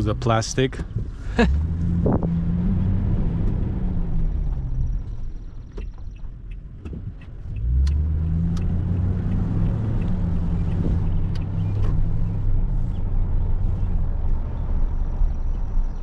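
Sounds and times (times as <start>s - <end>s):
road noise inside cab: 0.0s - 16.0s
truck engine rumble: 0.0s - 16.0s.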